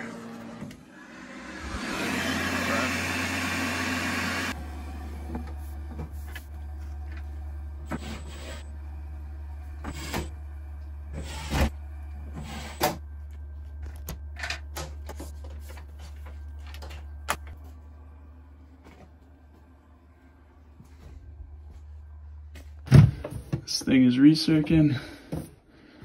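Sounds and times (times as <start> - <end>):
water heater humming: 0.0 - 26.0.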